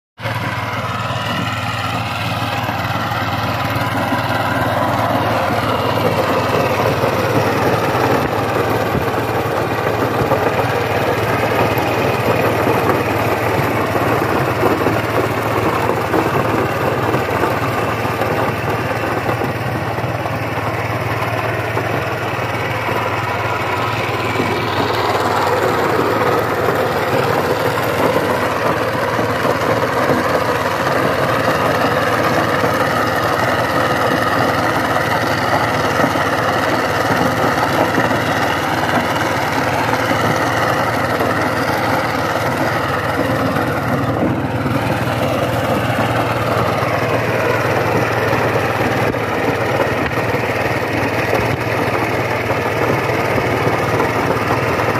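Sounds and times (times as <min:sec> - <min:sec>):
diesel tiller engine running: 0:00.2 - 0:54.9.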